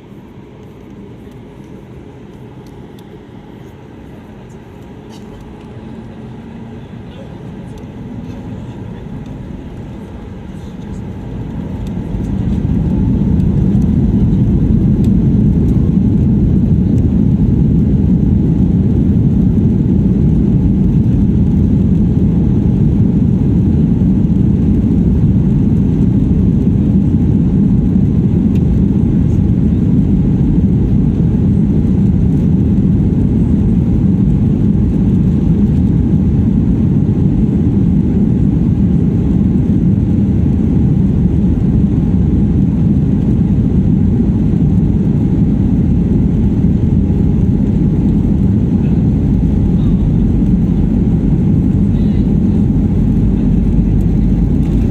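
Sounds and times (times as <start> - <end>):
jet engines takeoff rumble: 0.0 - 54.9.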